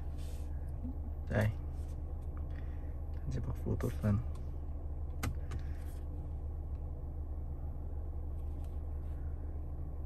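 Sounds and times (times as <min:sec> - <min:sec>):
car cabin low hum: 0:00.0 - 0:10.0.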